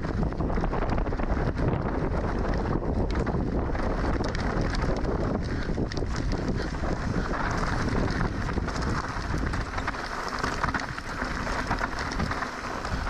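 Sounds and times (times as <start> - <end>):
bike rattling over rough ground: 0.0 - 13.0
bike tyre noise: 0.0 - 13.0
wind buffeting microphone: 0.0 - 13.0.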